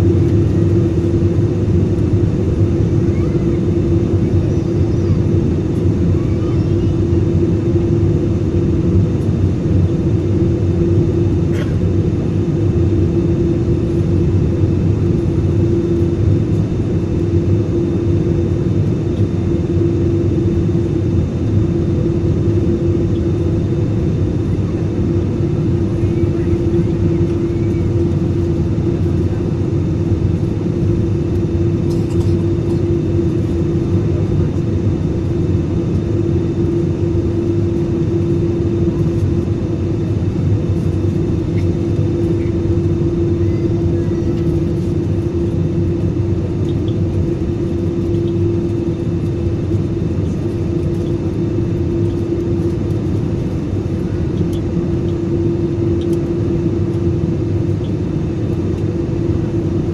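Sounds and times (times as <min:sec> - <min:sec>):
airplane engines droning: 0:00.0 - 0:59.9.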